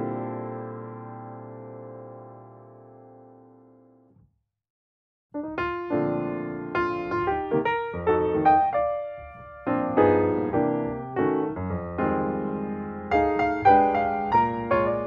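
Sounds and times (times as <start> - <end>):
gentle piano music: 0.0 - 4.0, 5.4 - 15.0.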